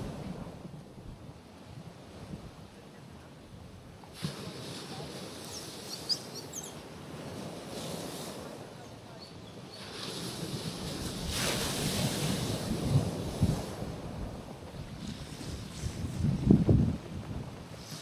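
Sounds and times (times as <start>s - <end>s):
sea waves on rocky shore: 0.0s - 0.8s, 3.9s - 18.0s.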